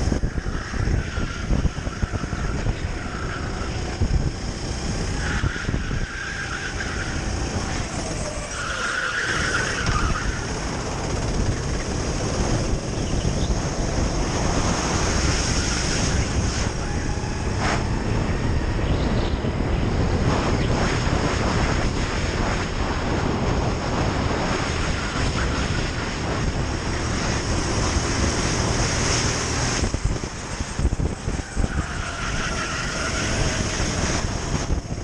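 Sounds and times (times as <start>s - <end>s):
kart engine running hard: 0.0s - 35.0s
wind buffeting microphone: 0.0s - 35.0s.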